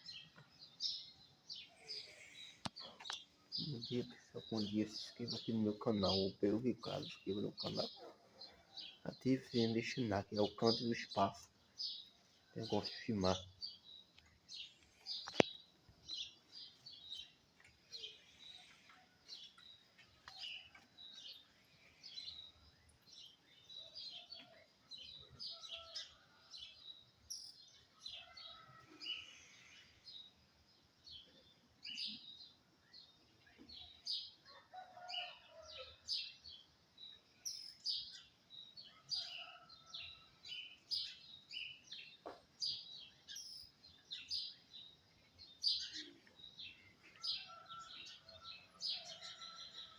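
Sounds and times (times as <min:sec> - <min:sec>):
birds chirping and calling: 0:00.0 - 0:30.3, 0:31.0 - 0:49.9.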